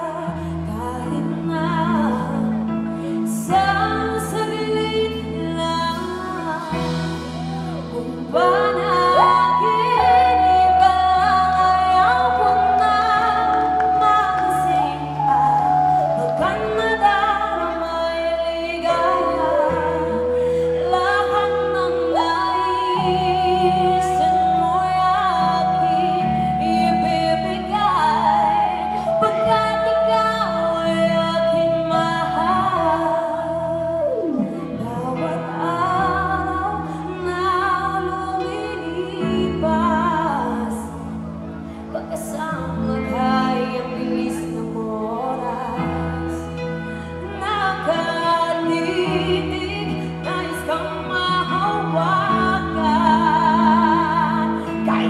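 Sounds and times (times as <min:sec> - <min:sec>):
instrumental backing: 0:00.0 - 0:55.0
woman singing a ballad: 0:00.0 - 0:55.0.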